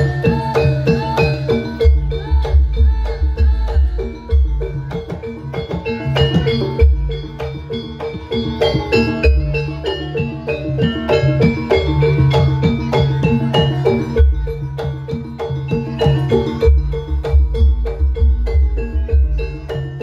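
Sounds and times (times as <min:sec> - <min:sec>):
metal percussion ringing: 0:00.0 - 0:20.0.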